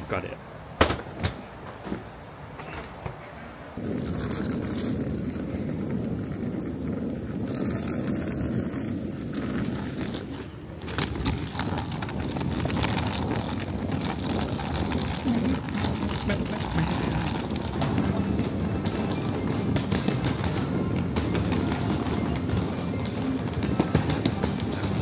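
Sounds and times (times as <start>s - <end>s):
suitcase wheels rumbling on concrete: 1.0s - 25.0s.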